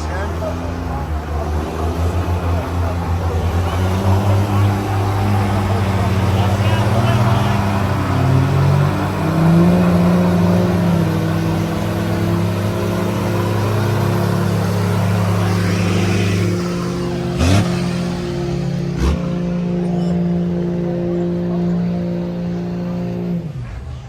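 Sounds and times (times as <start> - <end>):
truck engine revving high: 0.0 - 24.0.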